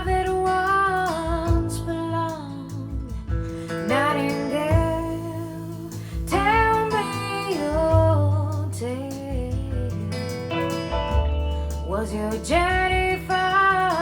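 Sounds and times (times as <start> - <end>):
bass line: 0.0 - 14.0
plucked guitar: 0.0 - 14.0
woman singing: 0.0 - 14.0.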